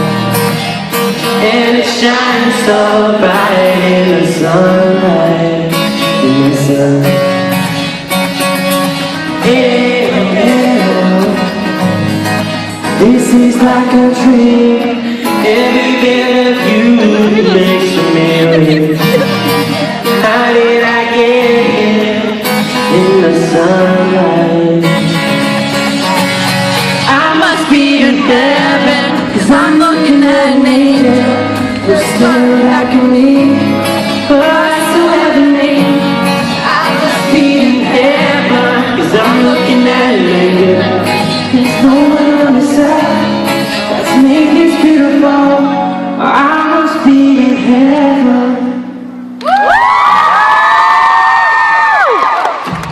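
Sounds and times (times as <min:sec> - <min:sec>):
man singing pop love song: 0:01.1 - 0:07.7, 0:09.1 - 0:25.4, 0:27.0 - 0:49.0.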